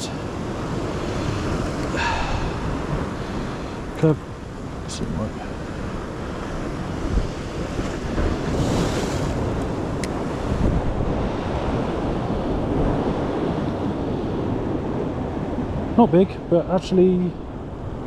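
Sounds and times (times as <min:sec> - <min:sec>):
sea surf washing against rocks: 0:00.0 - 0:18.0
wind rumble on microphone: 0:00.0 - 0:18.0.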